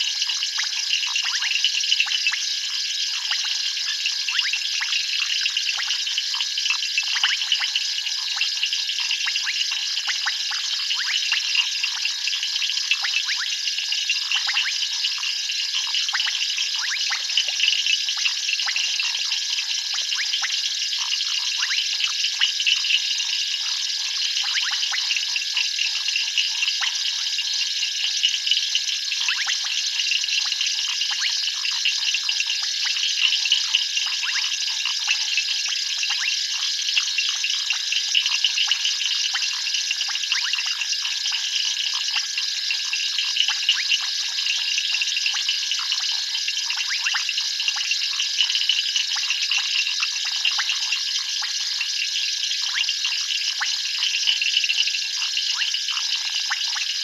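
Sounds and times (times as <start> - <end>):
frogs trilling: 0.0 - 57.0.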